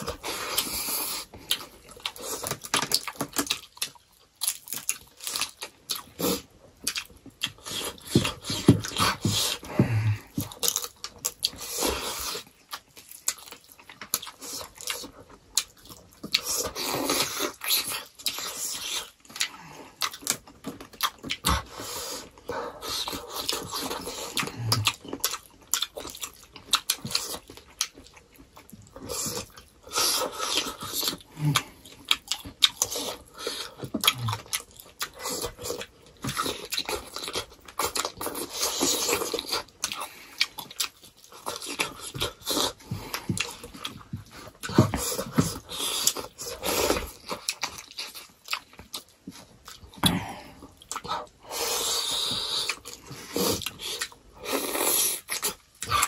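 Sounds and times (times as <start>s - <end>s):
chewing and lip-smacking: 0.0s - 56.0s.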